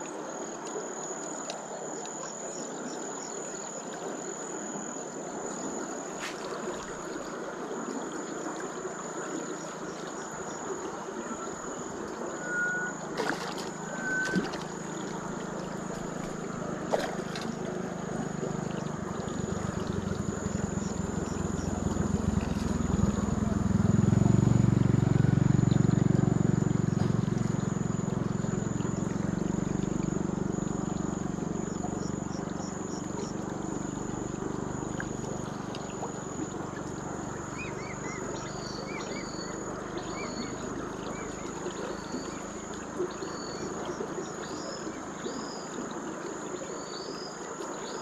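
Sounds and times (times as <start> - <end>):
river water flowing: 0.0 - 48.0
low motor drone: 1.5 - 48.0.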